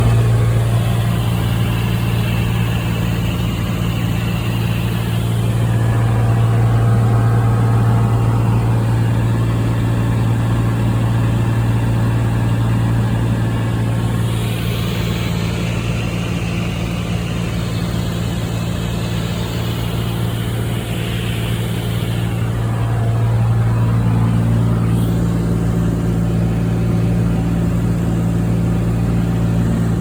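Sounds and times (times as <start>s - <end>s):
aircraft propeller engine droning: 0.0s - 30.0s.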